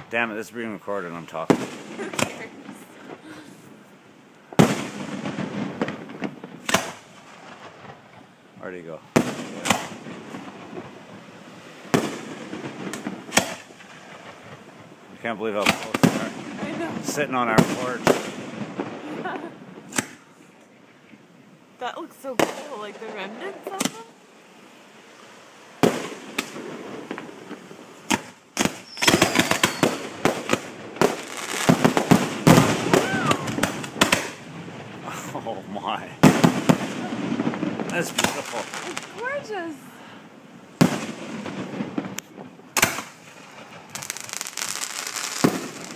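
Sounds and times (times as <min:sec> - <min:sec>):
fireworks bursting with echo: 0:00.0 - 0:20.6, 0:22.1 - 0:45.9.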